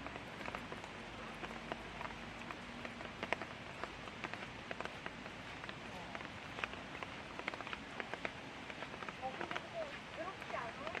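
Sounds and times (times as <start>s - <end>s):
light rain hiss: 0.0s - 11.0s
raindrops ticking close by: 0.0s - 11.0s.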